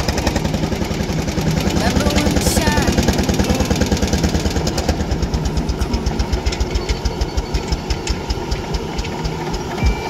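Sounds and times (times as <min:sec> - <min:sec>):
tractor engine idling: 0:00.0 - 0:10.0
sharp ticking: 0:01.4 - 0:10.0.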